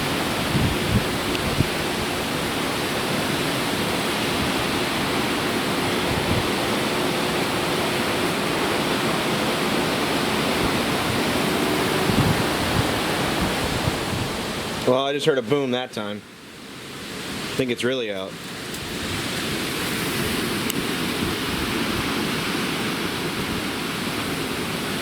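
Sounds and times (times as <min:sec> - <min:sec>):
heavy wind and rain: 0:00.0 - 0:25.0.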